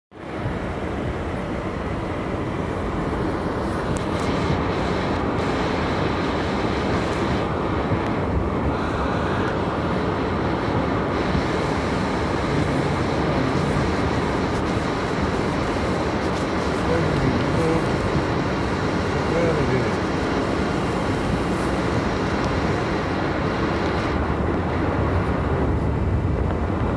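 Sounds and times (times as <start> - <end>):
car engine and tyres rumbling: 0.1 - 26.9.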